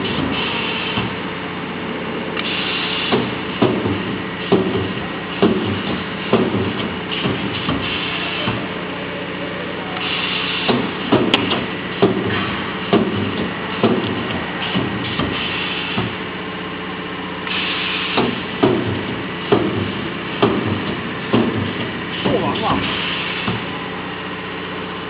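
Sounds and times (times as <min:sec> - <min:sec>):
welding heads clacking: 0:00.0 - 0:01.3, 0:02.4 - 0:08.8, 0:10.0 - 0:23.8
steady machine hum: 0:00.0 - 0:25.0
bursts of hiss: 0:02.4 - 0:08.8, 0:10.0 - 0:23.9.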